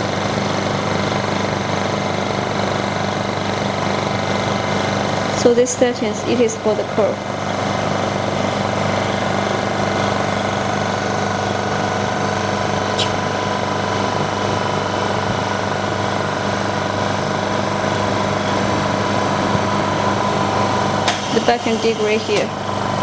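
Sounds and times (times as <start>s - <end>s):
vacuum pump humming: 0.0s - 23.0s.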